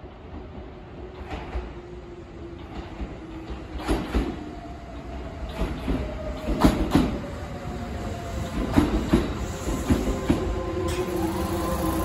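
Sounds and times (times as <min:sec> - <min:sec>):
steady train hum: 0:00.0 - 0:12.0.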